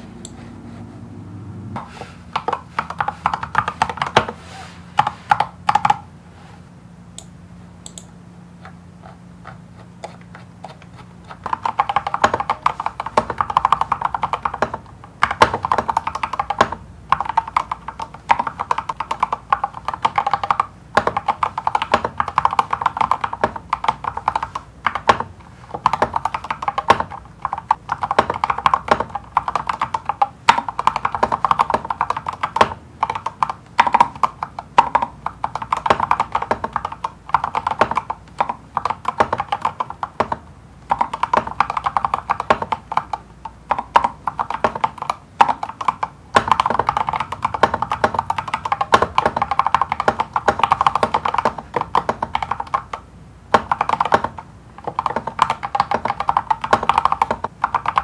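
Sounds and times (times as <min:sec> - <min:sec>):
mechanical keyboard typing: 0:01.8 - 0:04.4, 0:05.0 - 0:06.1, 0:07.2 - 0:58.0.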